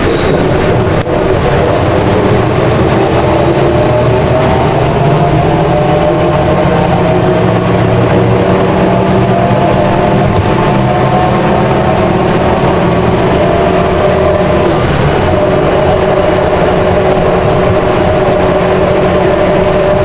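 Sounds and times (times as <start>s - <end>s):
bus engine pulling: 0.0s - 20.0s
gearbox whirring tone: 0.0s - 20.0s.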